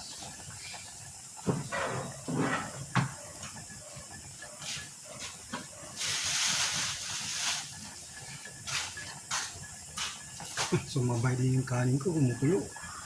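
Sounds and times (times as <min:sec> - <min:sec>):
pot boiling: 0:00.0 - 0:13.0
steam hissing: 0:00.0 - 0:13.0.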